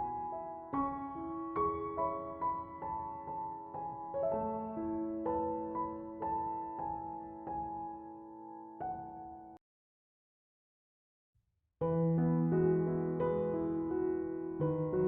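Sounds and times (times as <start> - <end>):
slow gentle piano music: 0.0 - 9.6, 11.8 - 15.0.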